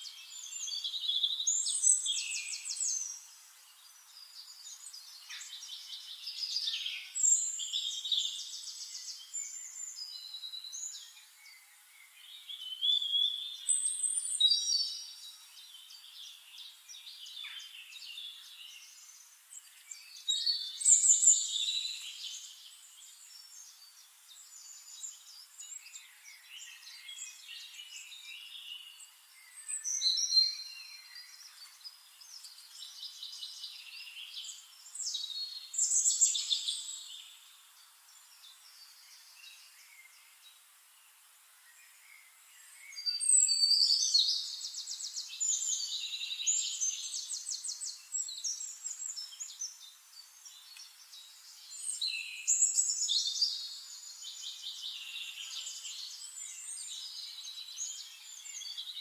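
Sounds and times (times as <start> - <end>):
birds chirping and trilling: 0.0 - 59.0
outdoor background hiss: 0.0 - 59.0.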